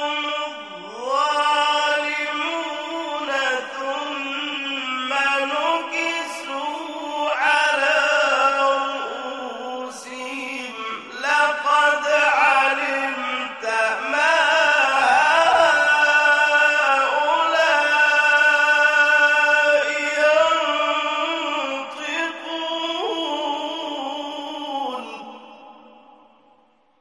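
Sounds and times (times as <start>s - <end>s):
man reciting melodically: 0.0s - 26.6s.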